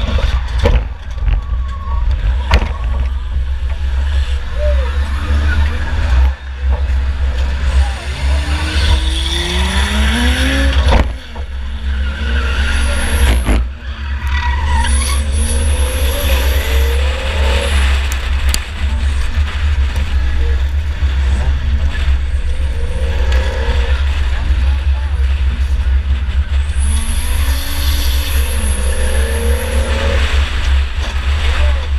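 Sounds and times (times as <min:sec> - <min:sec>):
race car engine revving: 0:00.0 - 0:31.9.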